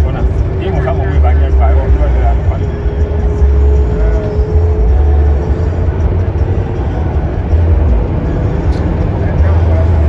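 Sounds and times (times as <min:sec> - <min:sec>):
vehicle and road rumble: 0:00.0 - 0:10.0.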